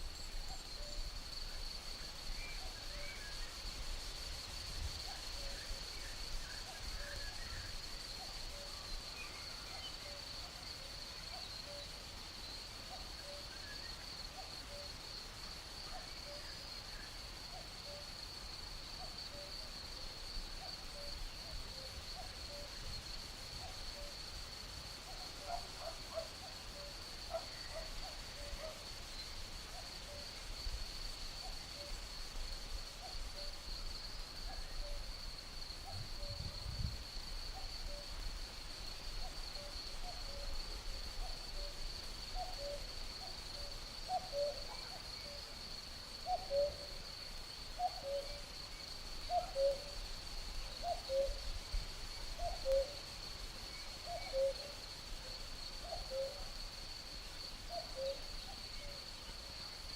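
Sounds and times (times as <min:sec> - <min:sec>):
high-pitched insect trill: 0:00.0 - 0:59.9.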